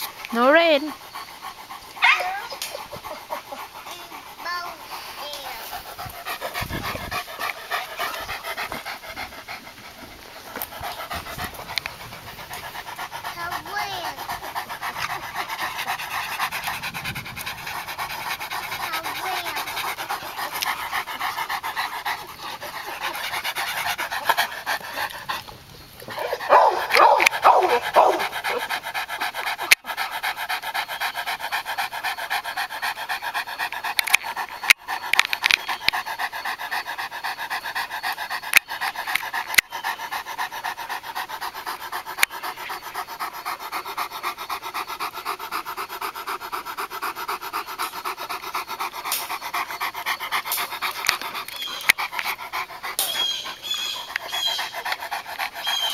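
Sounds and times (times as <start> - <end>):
dog panting: 0.0 - 55.9.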